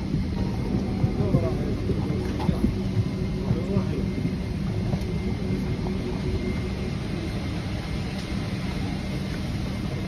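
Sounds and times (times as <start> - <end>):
airplane cabin rumble and air rush: 0.0 - 10.0
faint high whine: 0.0 - 10.0.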